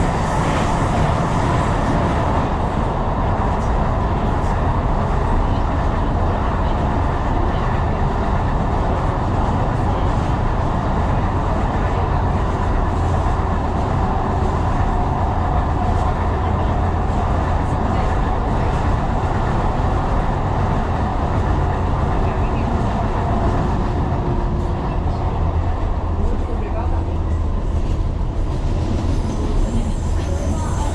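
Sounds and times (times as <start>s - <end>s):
train wheels rumbling: 0.0s - 30.9s.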